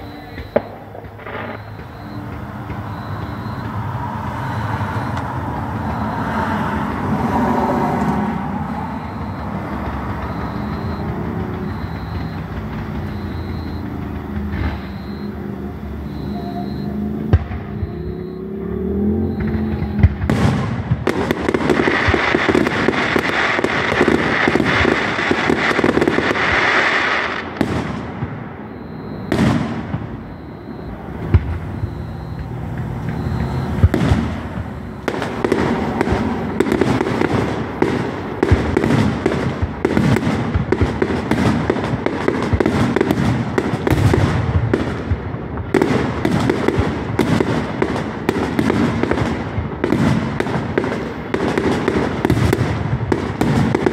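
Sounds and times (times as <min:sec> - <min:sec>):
loud firework booms: 0:00.0 - 0:18.4, 0:19.0 - 0:53.9
fireworks bangs and crackling: 0:00.0 - 0:53.9.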